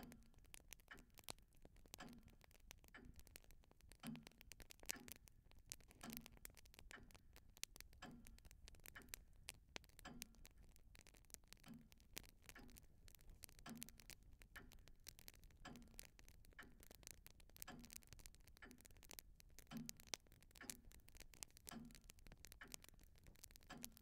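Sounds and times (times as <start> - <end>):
faint regular ticking: 0.0 - 24.0.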